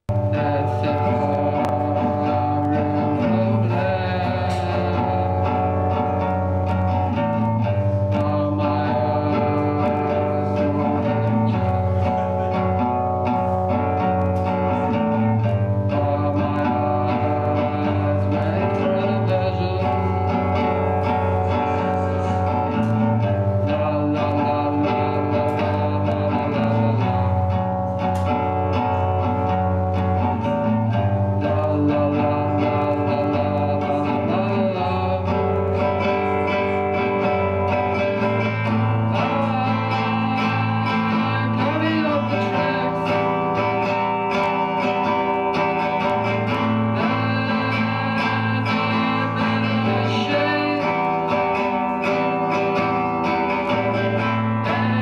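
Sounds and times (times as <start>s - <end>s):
guitar: 0.0s - 55.0s
man singing: 0.1s - 55.0s.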